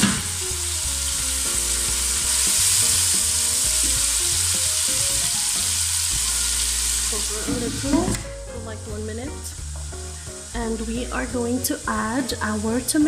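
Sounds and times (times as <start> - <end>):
chicken sizzling in oil: 0.0 - 8.2, 9.5 - 13.0.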